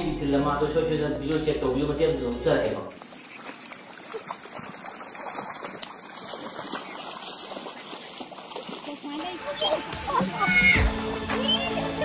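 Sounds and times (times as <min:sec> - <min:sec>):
muddy water splashing and trickling: 0:01.2 - 0:12.0.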